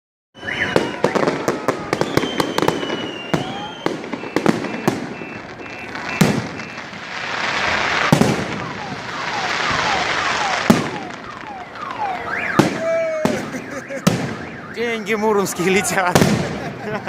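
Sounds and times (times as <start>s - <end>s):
fireworks whistling: 0.4s - 16.8s
fireworks bangs and crackles: 0.4s - 17.0s.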